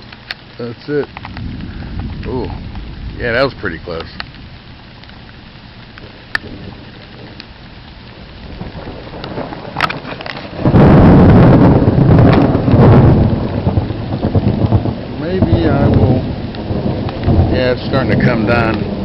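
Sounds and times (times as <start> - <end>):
heavy rain: 0.0 - 19.0
thunderclap rumbling: 1.0 - 19.0.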